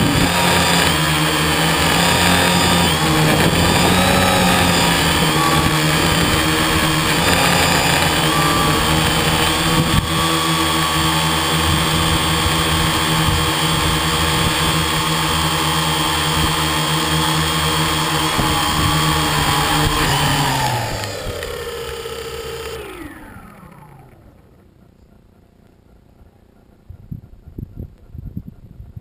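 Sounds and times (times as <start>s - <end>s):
model aircraft motor whining: 0.0s - 26.0s.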